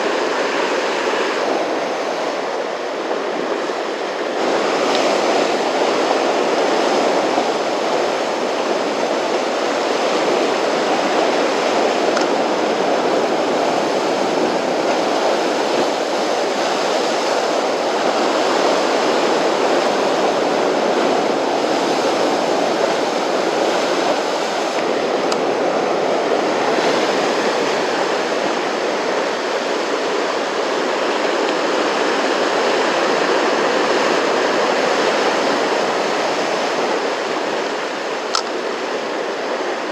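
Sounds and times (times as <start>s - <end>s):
rough sea surf rushing: 0.0s - 39.9s.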